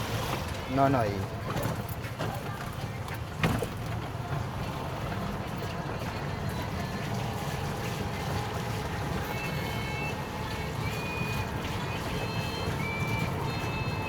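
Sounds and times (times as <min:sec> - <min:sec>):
road and traffic rumble: 0:00.0 - 0:14.0.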